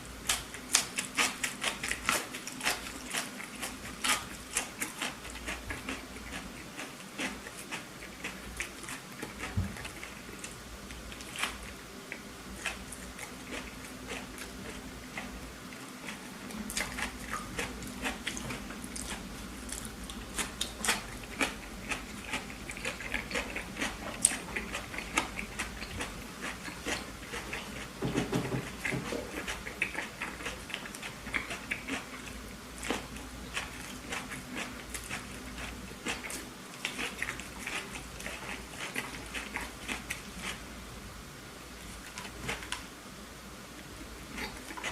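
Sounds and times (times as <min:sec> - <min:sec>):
person chewing with wet crunches: 0:00.0 - 0:40.7, 0:41.9 - 0:42.9, 0:43.8 - 0:44.9.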